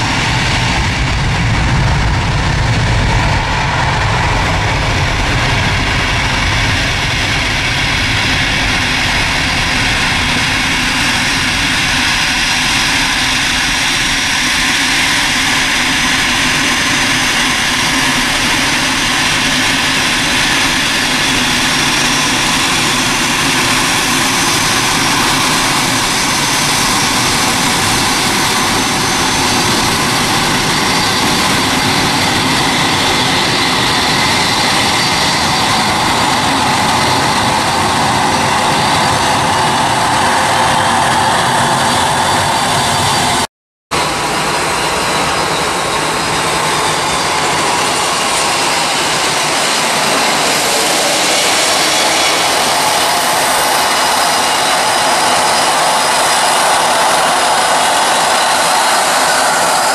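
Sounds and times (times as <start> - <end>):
deep jet rumble: 0.0 - 59.9
jet engines rushing with high whine: 0.0 - 59.9.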